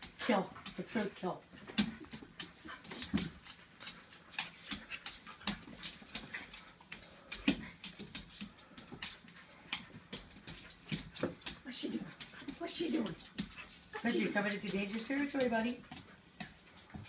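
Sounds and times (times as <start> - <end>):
dogs scuffling: 0.0 - 17.0.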